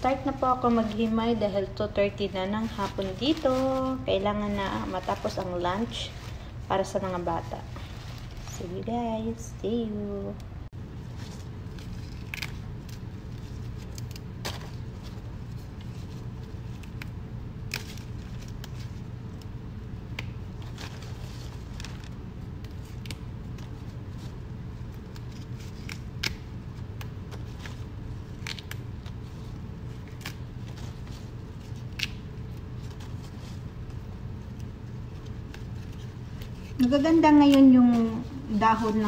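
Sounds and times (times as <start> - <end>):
steady low hum: 0.0 - 39.0
leaves snapping and rustling: 2.4 - 6.3, 11.1 - 39.0.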